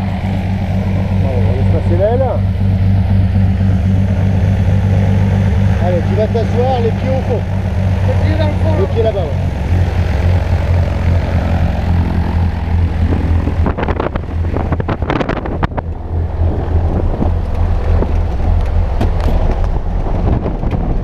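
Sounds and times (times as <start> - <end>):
light aircraft engine idling: 0.0 - 21.0.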